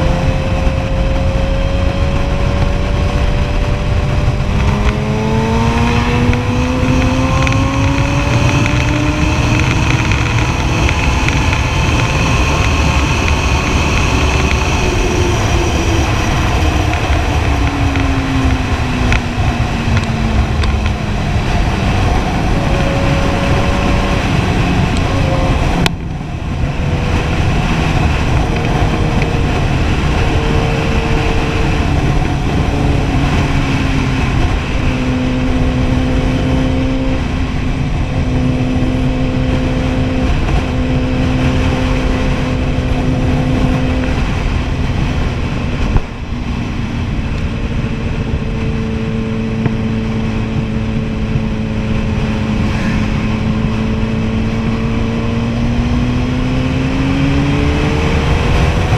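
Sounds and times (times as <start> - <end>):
heavy wind rush: 0.0 - 58.9
motorcycle engine cruising: 0.0 - 58.9.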